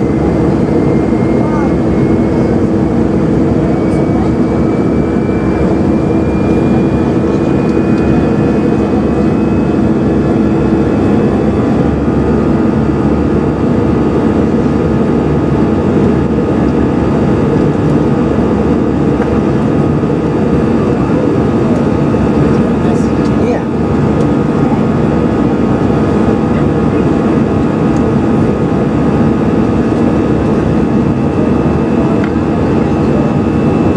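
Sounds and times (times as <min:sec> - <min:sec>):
aircraft cabin engine drone: 0:00.0 - 0:33.9.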